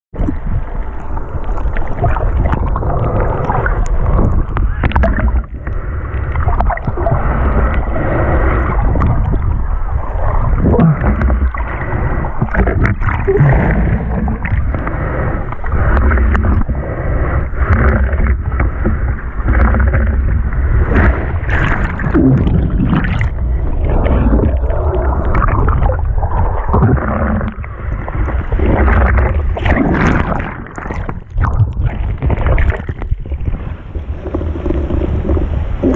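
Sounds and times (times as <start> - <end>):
wind: 0.1 - 35.9
low rumble of surf: 0.2 - 35.9
water splashing against microphone: 0.2 - 35.9.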